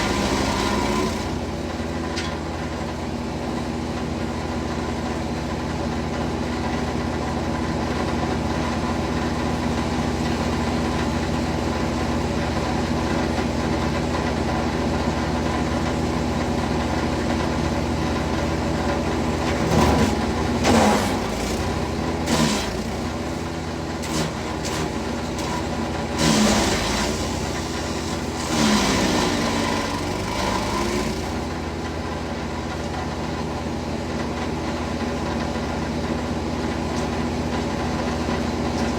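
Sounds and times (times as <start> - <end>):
wood chipper chipping material: 0.0 - 38.9
wood chipper engine running: 0.0 - 38.9.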